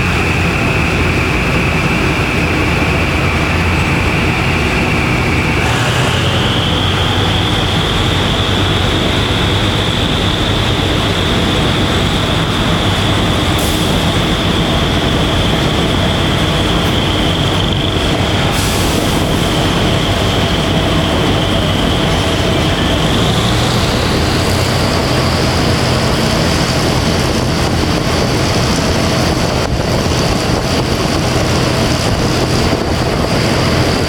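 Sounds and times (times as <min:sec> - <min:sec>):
high steady whine: 0:00.0 - 0:34.0
train engine and wheels: 0:00.0 - 0:34.0.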